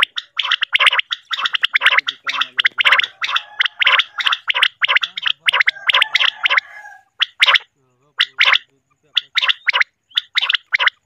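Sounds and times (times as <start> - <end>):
quail calling: 0.0 - 11.0.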